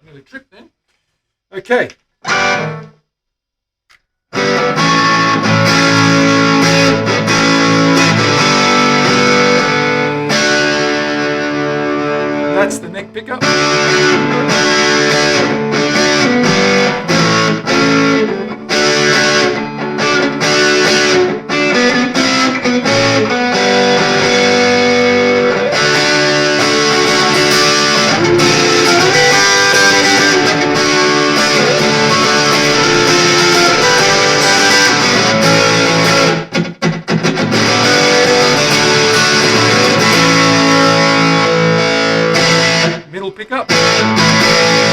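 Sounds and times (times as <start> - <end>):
distorted electric guitar: 2.2 - 3.0, 4.3 - 44.9.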